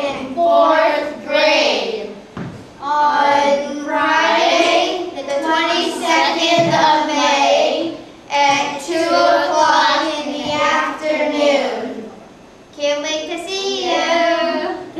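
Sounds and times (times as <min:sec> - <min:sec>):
children singing together: 0:00.0 - 0:12.2, 0:13.7 - 0:14.9.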